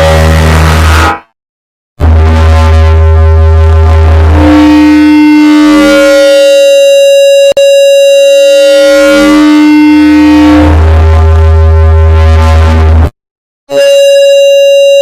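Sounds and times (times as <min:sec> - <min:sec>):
siren-like electronic tone: 0:00.0 - 0:01.3, 0:02.0 - 0:13.1, 0:13.7 - 0:15.0.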